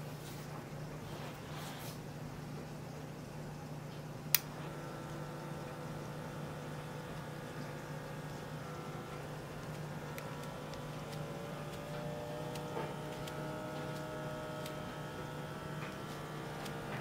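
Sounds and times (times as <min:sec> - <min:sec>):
small air pump humming: 0:00.0 - 0:17.0.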